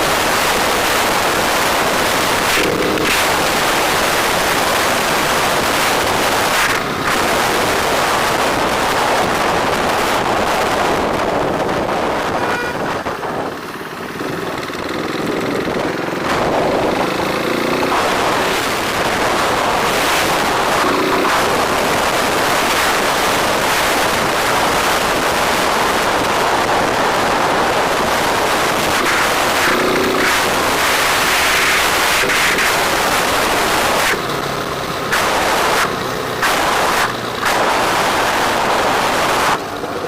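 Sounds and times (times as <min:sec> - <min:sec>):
wind rush: 0:00.0 - 0:39.7
motorbike road noise: 0:00.0 - 0:40.0.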